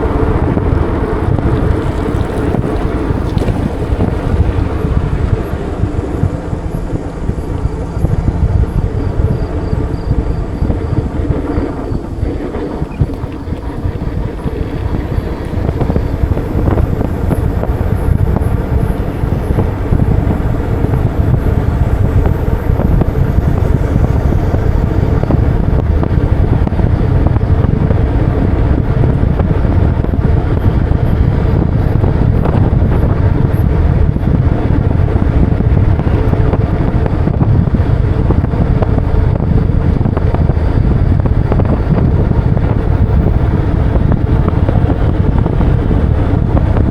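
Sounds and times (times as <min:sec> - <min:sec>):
road and traffic noise: 0:00.0 - 0:46.9
wind rumble on microphone: 0:00.0 - 0:46.9.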